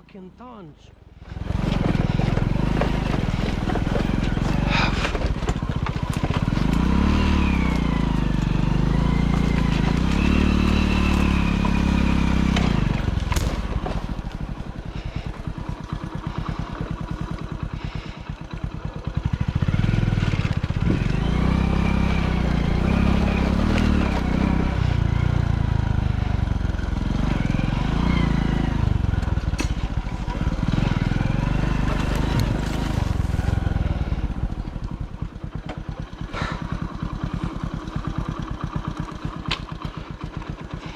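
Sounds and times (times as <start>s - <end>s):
motorcycle engine revving: 1.0s - 40.9s.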